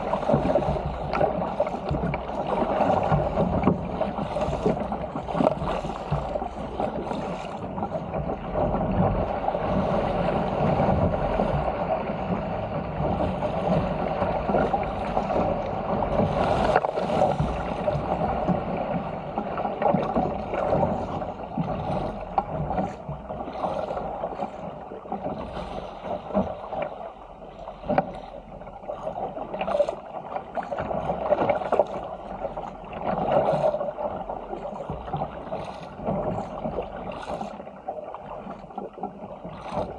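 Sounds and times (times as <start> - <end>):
paddle splashes: 0.0 - 39.9
water rushing along hull: 0.0 - 39.9.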